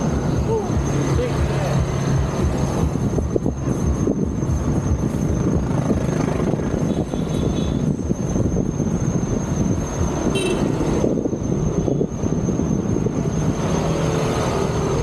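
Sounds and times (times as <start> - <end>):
heavy road traffic rumble: 0.0 - 15.0.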